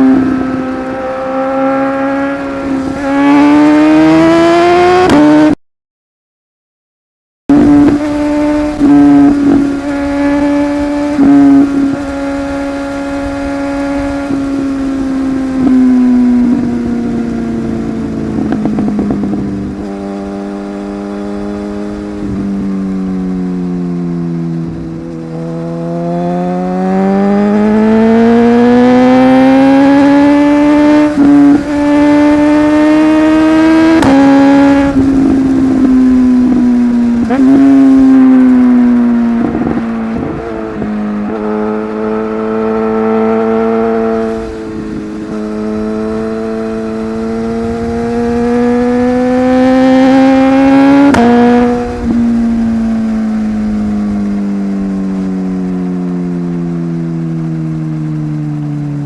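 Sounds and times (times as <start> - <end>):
motorcycle engine accelerating: 0.0 - 5.6, 7.5 - 59.0.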